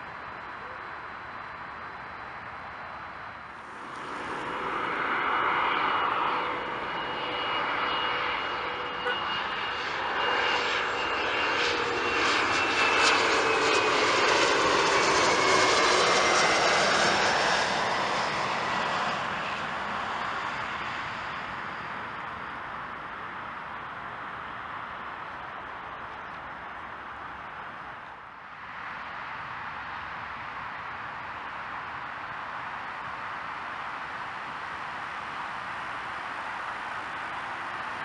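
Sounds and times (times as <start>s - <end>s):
jet engines passing overhead: 0.0s - 38.0s.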